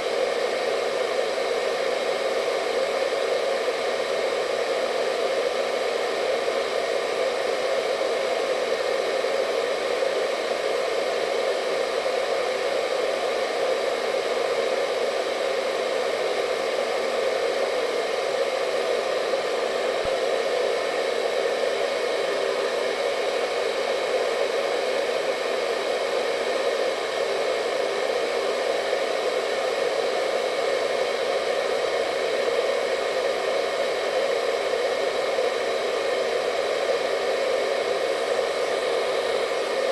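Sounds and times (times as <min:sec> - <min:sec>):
faint whine: 0:00.0 - 0:39.9
hair dryer blowing: 0:00.0 - 0:39.9.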